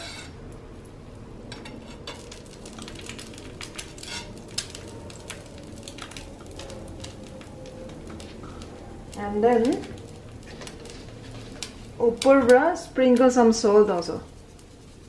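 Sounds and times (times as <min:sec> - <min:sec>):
ghee crackling on a hot pan: 0:00.0 - 0:15.0.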